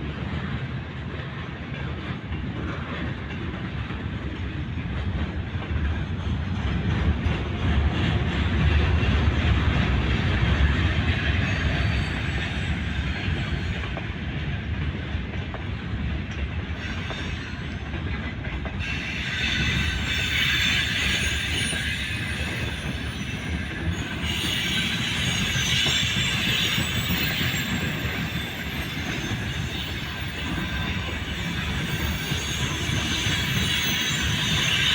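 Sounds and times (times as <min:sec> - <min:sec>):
train wheels rumbling on rails: 0:00.0 - 0:34.9
squealing train wheels: 0:00.1 - 0:34.9.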